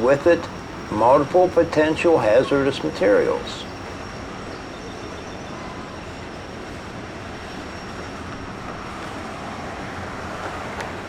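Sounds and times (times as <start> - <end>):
train wheels rolling on rail: 0.0 - 11.0.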